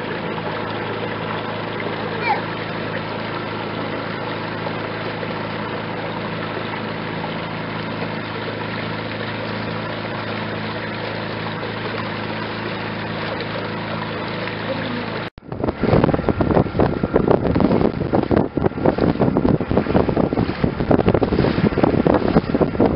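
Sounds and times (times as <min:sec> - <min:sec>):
boat engine droning: 0:00.0 - 0:22.9
rush of water noise: 0:00.0 - 0:22.9.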